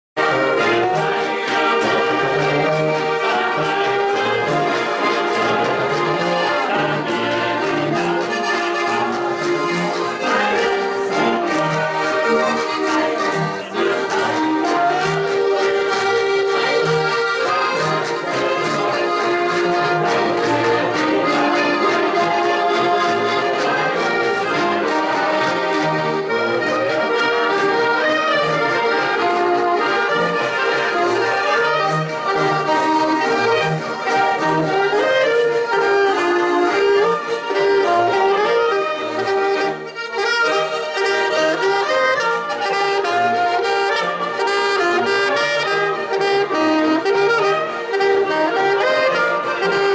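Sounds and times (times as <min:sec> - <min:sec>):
alto saxophone: 0:00.2 - 0:49.9
button accordions playing: 0:00.2 - 0:49.9.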